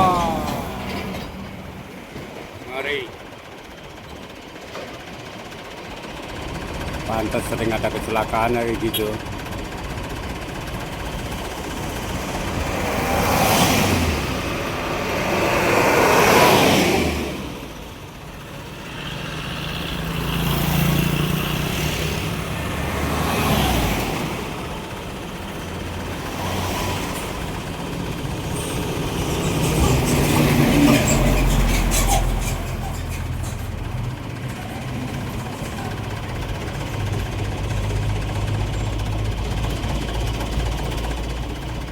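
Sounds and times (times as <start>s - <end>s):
heavy truck engines droning: 0.0s - 41.9s
vehicles passing: 0.0s - 41.9s.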